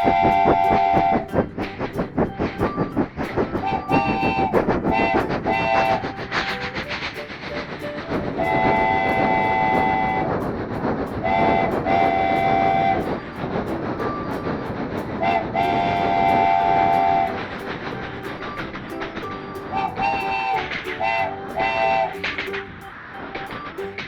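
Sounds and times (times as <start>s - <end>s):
multi-tone train whistle: 0.0s - 24.0s
rail rumble: 0.0s - 24.0s.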